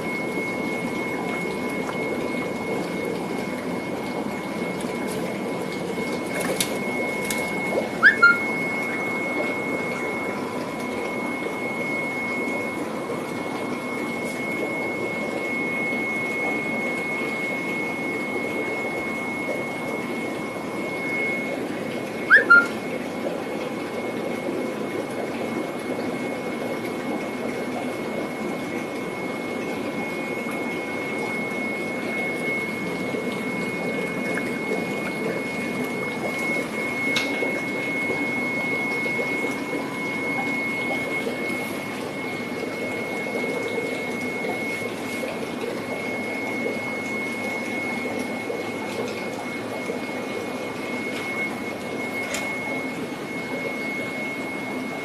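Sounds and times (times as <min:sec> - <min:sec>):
aquarium water and pump noise: 0:00.0 - 0:55.0.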